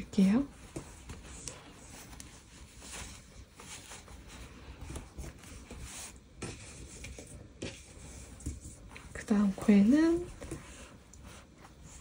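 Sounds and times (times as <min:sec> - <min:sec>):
yarn rubbing and rustling: 0:00.0 - 0:12.0.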